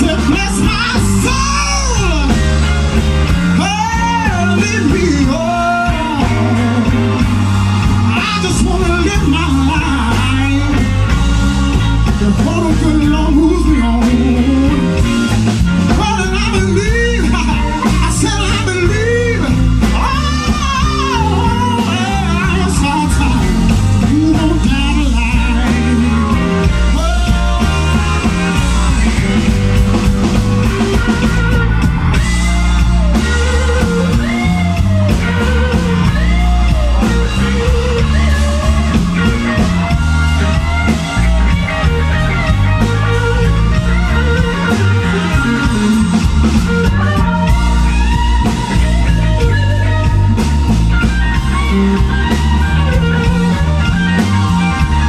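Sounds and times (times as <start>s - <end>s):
drums: 0.0s - 55.0s
electric guitar: 0.0s - 55.0s
man singing blues: 0.0s - 55.0s.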